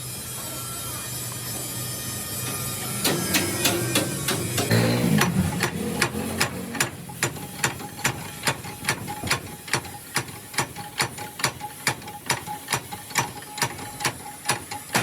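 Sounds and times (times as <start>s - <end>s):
rhythmic mechanical clicking: 1.1s - 15.0s.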